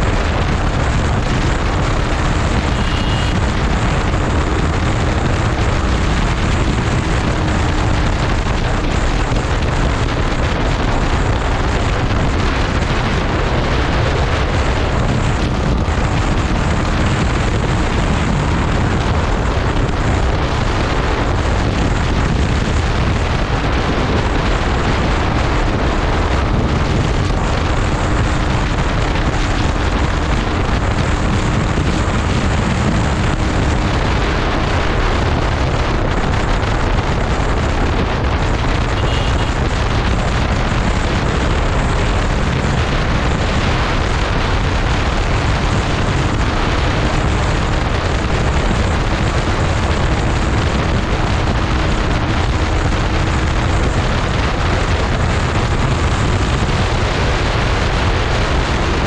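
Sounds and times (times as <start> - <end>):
faint motorcycle engine hum: 0.0 - 58.8
wind buffeting microphone: 0.0 - 59.0.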